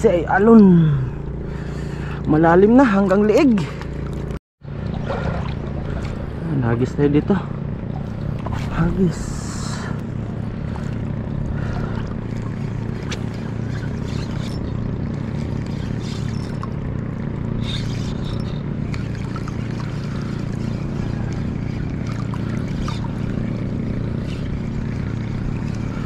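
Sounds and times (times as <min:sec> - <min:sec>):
low engine drone: 0:00.0 - 0:26.0
water trickling: 0:01.6 - 0:26.0.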